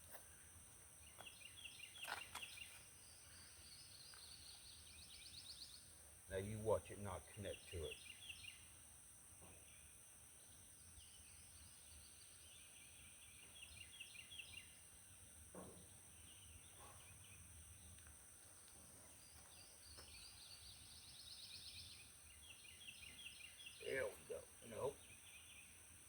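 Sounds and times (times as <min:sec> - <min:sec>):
small birds chirping: 0:00.1 - 0:08.8, 0:09.4 - 0:26.0.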